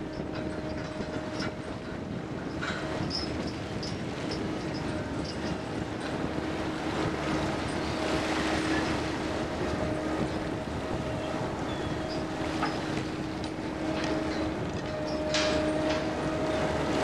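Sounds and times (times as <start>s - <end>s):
deck machinery droning: 0.0s - 17.0s
sea water rushing and splashing: 0.0s - 17.0s.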